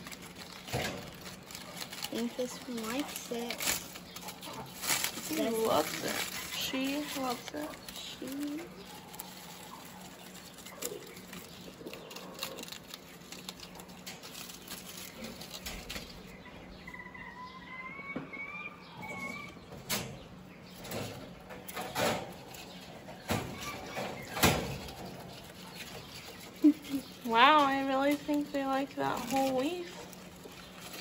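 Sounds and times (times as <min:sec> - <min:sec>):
dry leaf rustling and crackling: 0:00.0 - 0:16.9, 0:20.7 - 0:31.0
rabbits chewing dry leaf: 0:00.0 - 0:17.8, 0:19.0 - 0:31.0.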